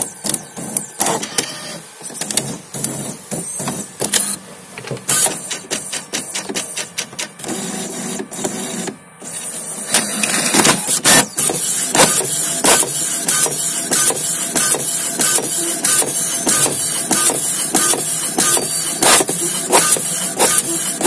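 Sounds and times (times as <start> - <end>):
print head carriage clicking: 0.0 - 21.0
printer mechanical whirr: 0.0 - 21.0.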